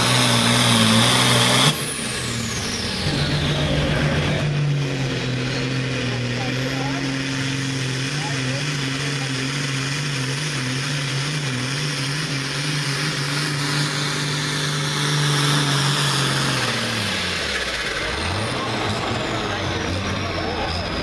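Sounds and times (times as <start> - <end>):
tractor diesel engine running hard: 0.0 - 21.0.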